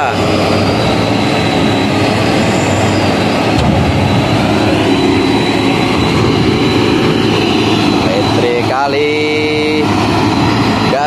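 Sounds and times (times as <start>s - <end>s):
heavy diesel engines rumbling: 0.0s - 11.0s
high whine: 0.0s - 11.0s.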